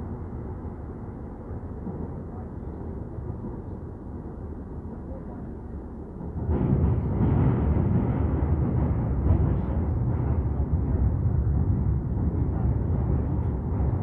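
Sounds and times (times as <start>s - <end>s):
train wheels and motors rumbling: 0.2s - 14.0s.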